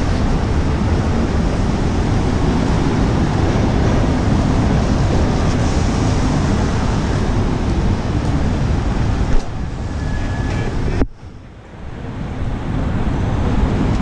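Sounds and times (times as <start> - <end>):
passing cars rumble: 0.0 - 14.0.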